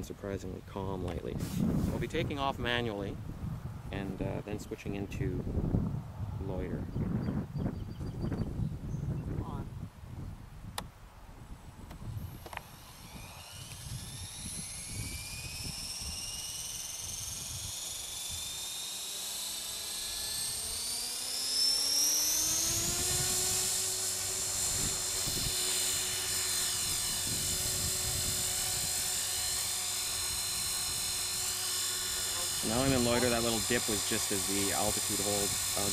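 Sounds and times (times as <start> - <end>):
model helicopter motor whine: 0.2 - 9.6, 10.6 - 35.9.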